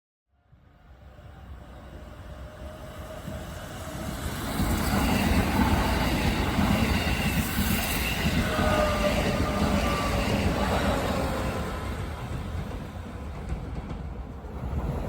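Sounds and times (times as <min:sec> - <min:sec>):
electric train rumbling: 0:00.5 - 0:15.0.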